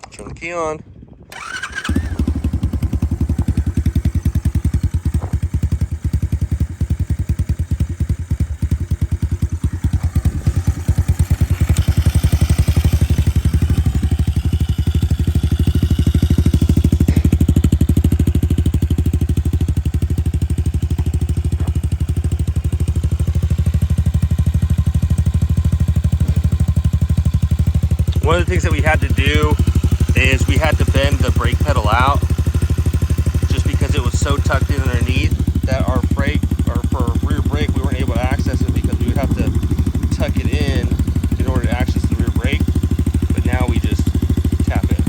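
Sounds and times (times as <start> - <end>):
motorbike engine idling: 1.3 - 45.0.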